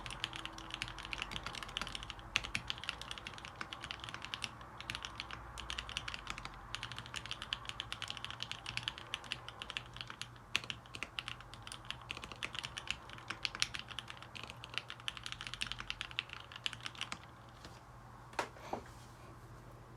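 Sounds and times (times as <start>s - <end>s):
mechanical keyboard typing: 0.0s - 17.6s.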